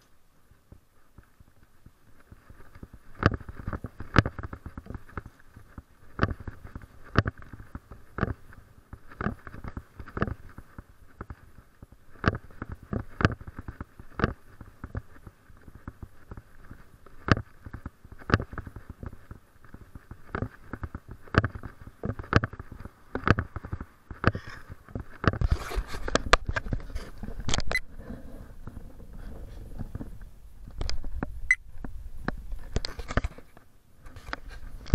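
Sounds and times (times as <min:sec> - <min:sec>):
camera rustling and knocking: 0:00.6 - 0:34.9.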